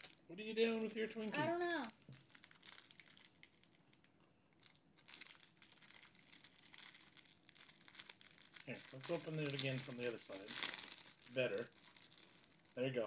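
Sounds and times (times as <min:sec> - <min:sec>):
plastic wrapper crinkling: 0:00.0 - 0:13.0.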